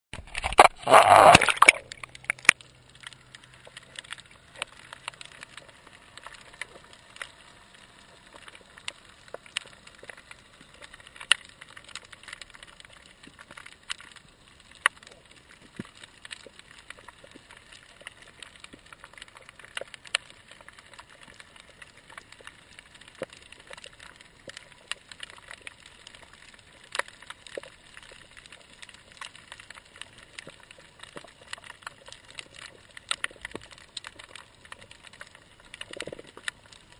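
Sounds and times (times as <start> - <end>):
sharp underwater clicks and crackles: 0.1 - 36.9.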